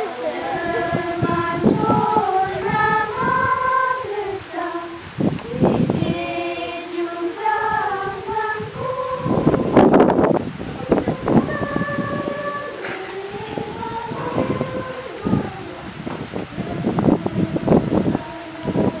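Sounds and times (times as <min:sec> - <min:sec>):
women and children singing a hymn: 0:00.0 - 0:19.0.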